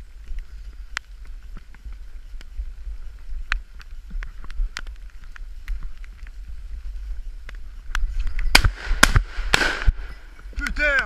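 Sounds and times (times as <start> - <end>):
sharp ticks and snaps: 0.0 - 11.0
wind rumbling on microphone: 0.0 - 11.0.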